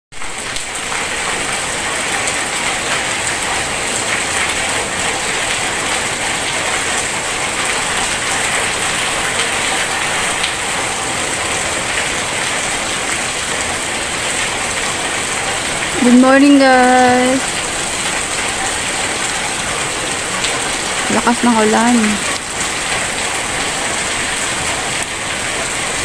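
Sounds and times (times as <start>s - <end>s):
heavy rain falling: 0.2s - 26.0s.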